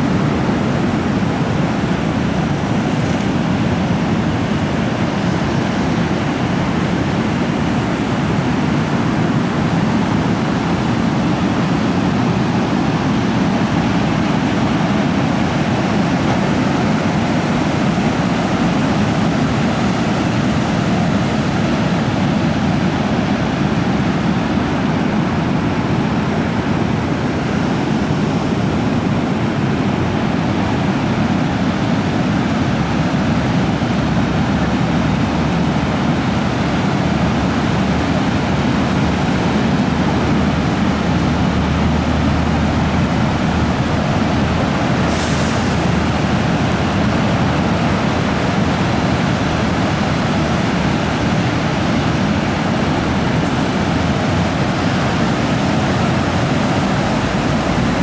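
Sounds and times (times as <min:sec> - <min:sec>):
creek rushing: 0:00.0 - 0:58.0.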